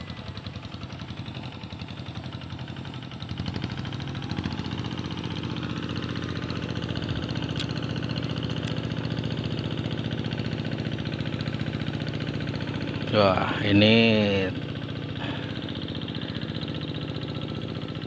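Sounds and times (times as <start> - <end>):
tractor engine chugging: 0.0 - 18.0.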